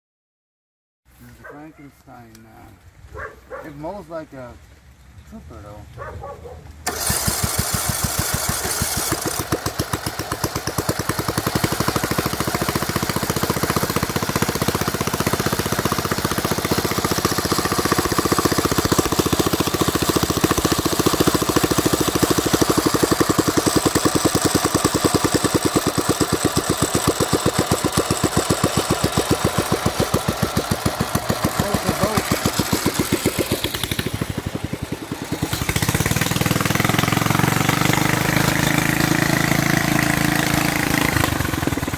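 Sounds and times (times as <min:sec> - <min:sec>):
lawn mower engine running: 0:06.7 - 0:41.9.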